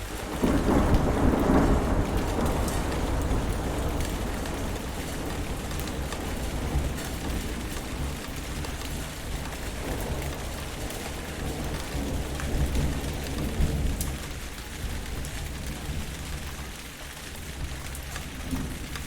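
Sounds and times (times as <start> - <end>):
low rumble of thunder: 0.0 - 16.8
sharp raindrop ticks: 0.0 - 19.0
steady rain: 0.0 - 19.0.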